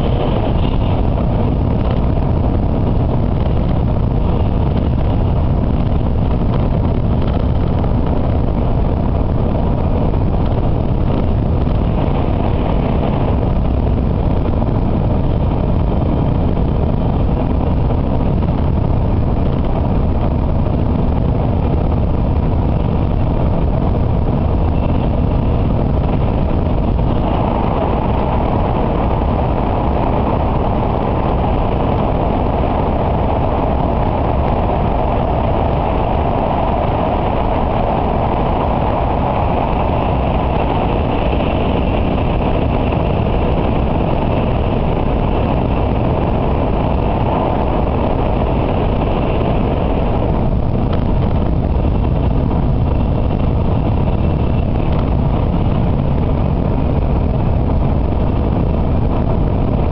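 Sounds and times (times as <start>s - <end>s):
train cabin running noise: 0.0s - 17.8s, 18.5s - 59.9s.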